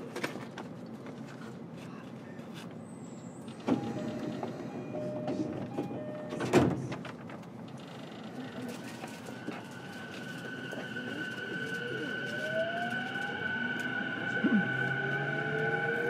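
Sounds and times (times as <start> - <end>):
train car low hum: 0.0 - 16.0.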